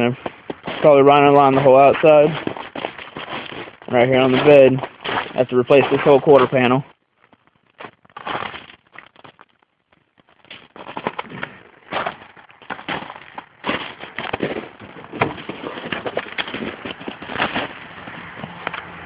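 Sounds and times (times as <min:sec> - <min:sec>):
crunching footsteps: 0:00.0 - 0:19.0.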